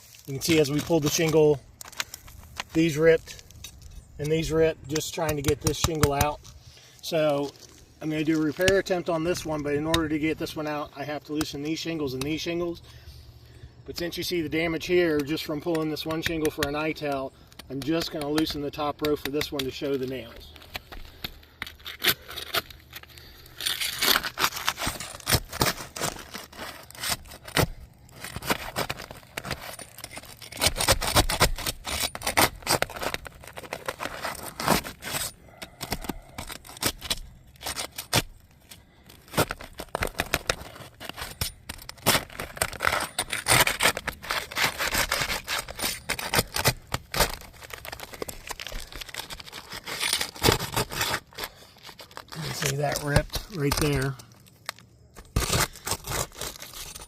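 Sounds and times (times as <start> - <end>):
roof shingles scraping and tearing: 0.0 - 13.1, 14.0 - 57.0.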